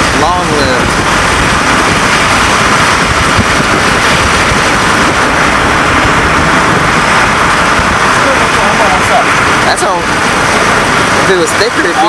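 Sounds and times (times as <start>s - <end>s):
vehicle engine and tyre road noise: 0.0s - 12.0s.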